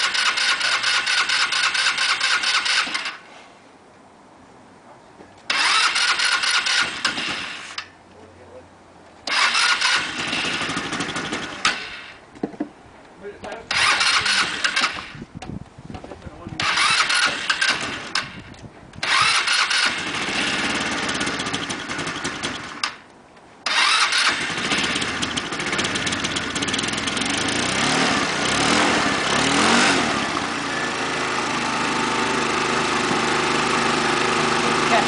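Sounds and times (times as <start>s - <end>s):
scooter engine starting and idling: 0.0s - 3.3s, 5.5s - 7.9s, 9.2s - 12.2s, 13.6s - 15.2s, 16.6s - 35.0s.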